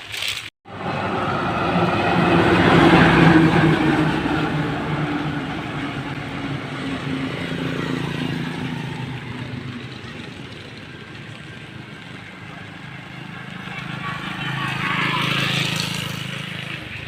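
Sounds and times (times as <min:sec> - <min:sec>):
vehicle engine running: 0:00.7 - 0:17.0.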